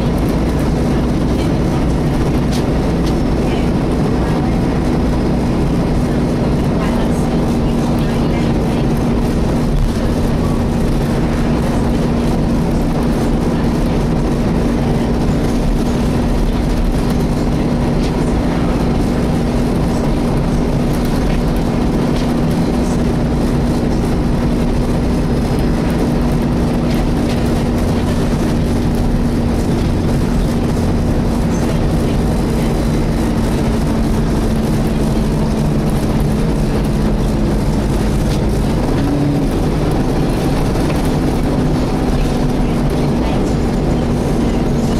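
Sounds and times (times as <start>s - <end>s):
bus engine and road noise: 0.0s - 44.9s
cooling fan droning hum: 0.0s - 44.9s.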